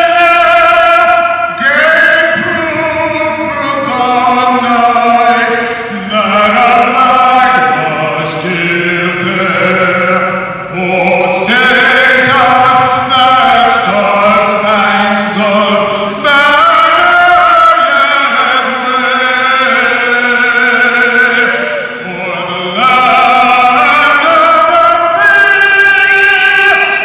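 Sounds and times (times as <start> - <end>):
person singing with vibrato: 0.0 - 27.0.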